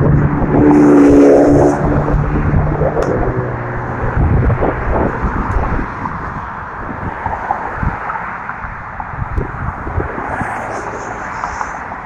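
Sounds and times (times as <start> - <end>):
passing vehicle engine: 0.0 - 12.0
wind buffeting microphone: 0.0 - 12.0.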